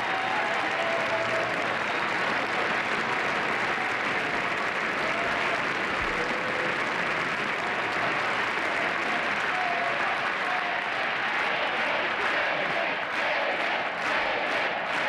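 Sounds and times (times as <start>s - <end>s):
large crowd applauding: 0.0s - 15.0s.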